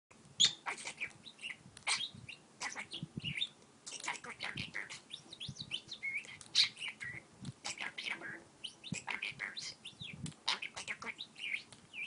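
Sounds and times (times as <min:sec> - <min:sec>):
parakeet chattering: 0:00.4 - 0:12.0.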